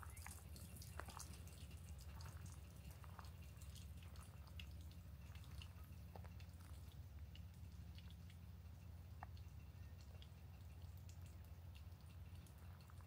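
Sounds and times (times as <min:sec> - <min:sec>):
faint small ticks and clicks: 0:00.0 - 0:13.0
low background hum: 0:00.0 - 0:13.0.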